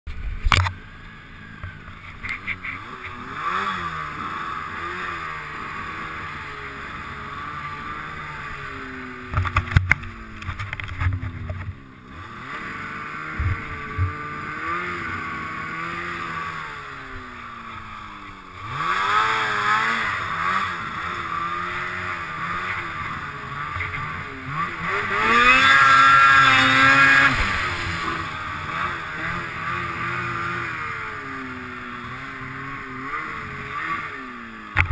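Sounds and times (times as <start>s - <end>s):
snowmobile engine revving: 0.7s - 34.9s.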